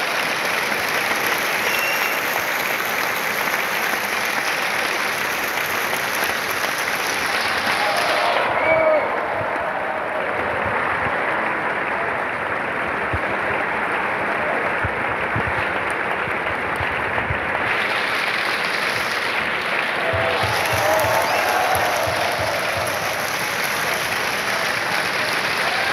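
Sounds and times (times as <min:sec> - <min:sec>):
audience applauding: 0:00.0 - 0:25.9.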